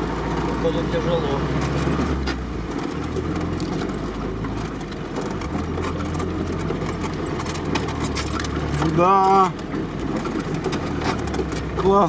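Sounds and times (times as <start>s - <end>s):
vehicle engine running: 0.0s - 12.0s
vehicle knocks and rattles: 0.0s - 12.0s.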